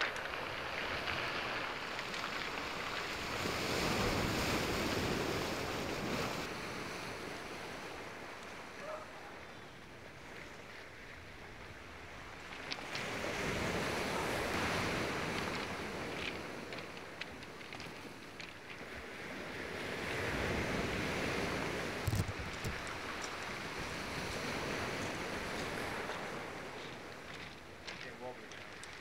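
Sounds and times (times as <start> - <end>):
sea surf on pebbly shore: 0.0 - 29.0.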